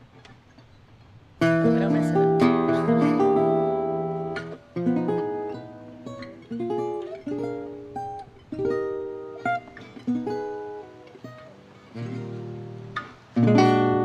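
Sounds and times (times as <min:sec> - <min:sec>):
acoustic guitar picked chords: 0:00.0 - 0:14.0.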